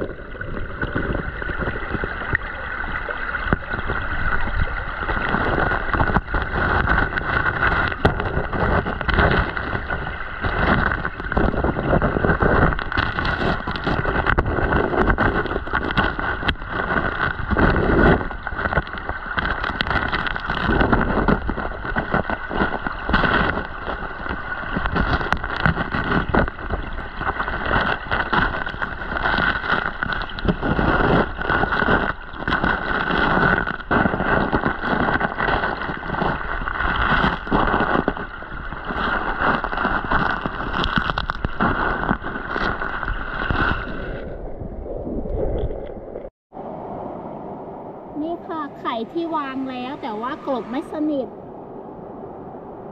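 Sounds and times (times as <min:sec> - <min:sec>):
river current underwater: 0:00.0 - 0:52.9.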